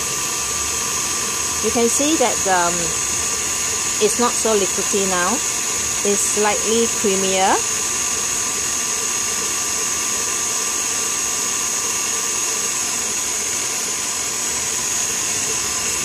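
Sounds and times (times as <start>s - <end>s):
stand mixer motor hum: 0.0s - 16.0s
whisk beating cream in bowl: 0.0s - 16.0s.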